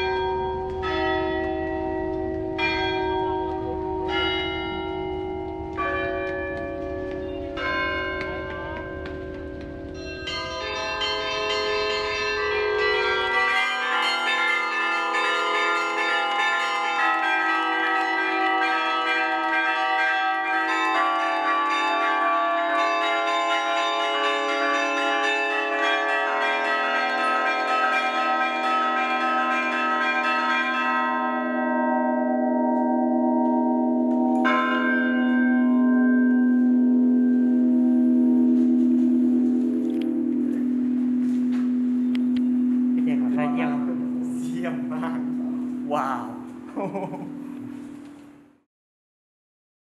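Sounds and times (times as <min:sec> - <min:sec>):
church bells ringing a melody: 0:00.0 - 0:48.7.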